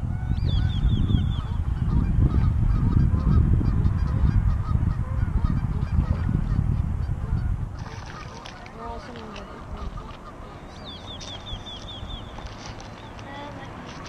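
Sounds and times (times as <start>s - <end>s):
geese honking: 0.1s - 12.6s.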